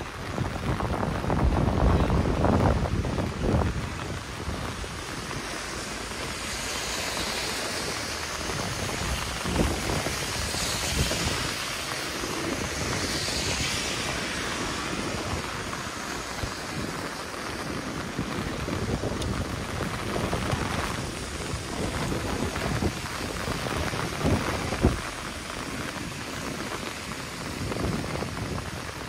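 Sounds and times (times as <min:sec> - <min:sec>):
rain hissing: 0:00.0 - 0:29.0
wind buffeting microphone: 0:00.0 - 0:29.0.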